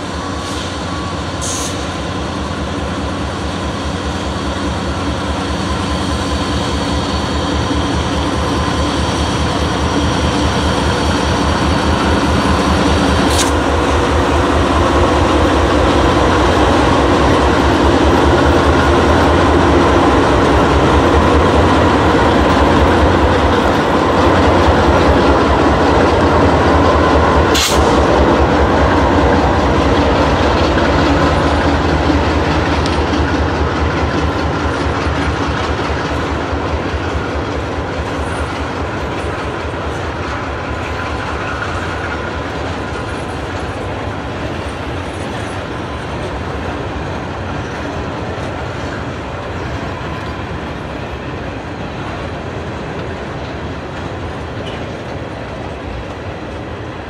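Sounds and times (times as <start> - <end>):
train wheels clicking on rails: 0.0 - 57.0.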